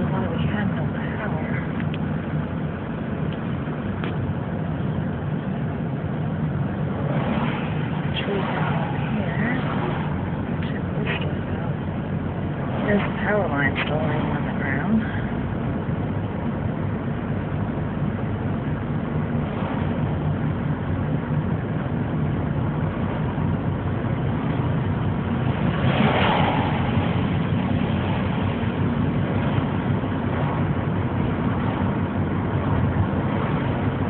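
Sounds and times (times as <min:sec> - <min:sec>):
car cabin road and engine noise: 0:00.0 - 0:34.0
truck passing whoosh: 0:05.2 - 0:34.0.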